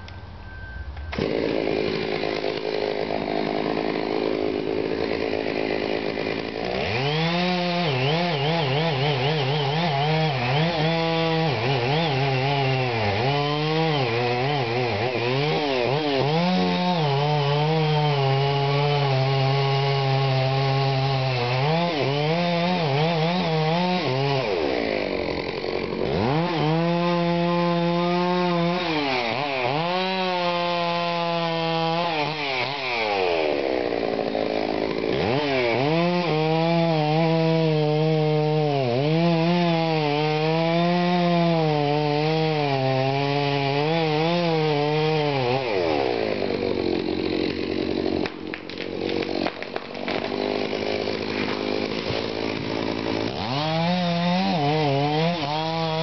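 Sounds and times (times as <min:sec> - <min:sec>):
chainsaw cutting wood: 0:00.9 - 0:56.0.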